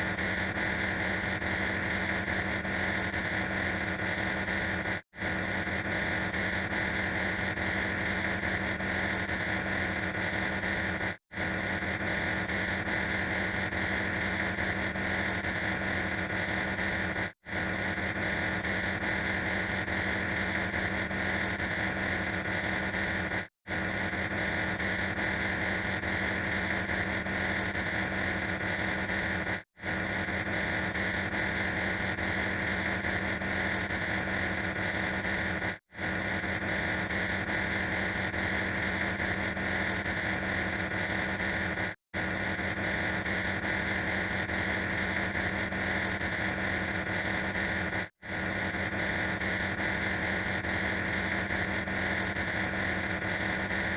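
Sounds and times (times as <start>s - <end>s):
harsh noise sound effect: 0.0s - 53.9s.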